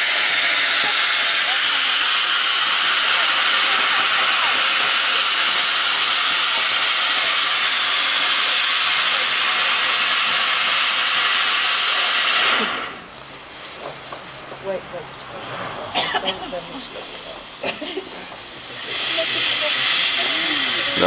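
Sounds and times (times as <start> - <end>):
firework spraying sparks hiss: 0.0 - 21.0.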